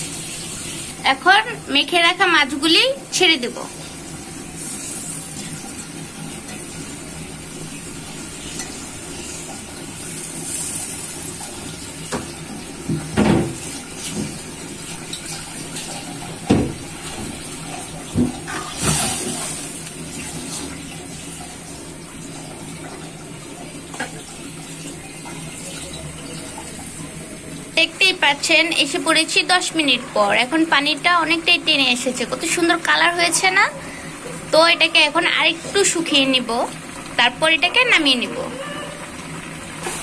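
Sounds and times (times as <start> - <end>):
broth simmering in a pan: 0.0 - 40.0.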